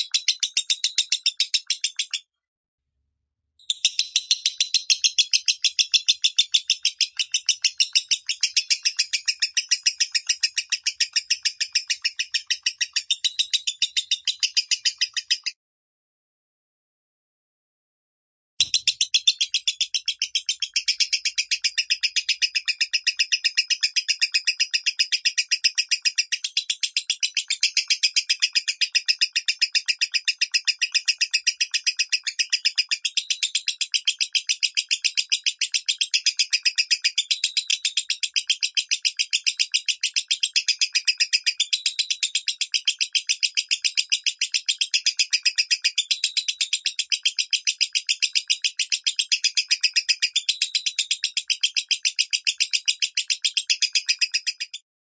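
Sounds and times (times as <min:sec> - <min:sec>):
lovebird rapid chirping: 0:00.0 - 0:02.2, 0:03.6 - 0:15.5, 0:18.6 - 0:54.9.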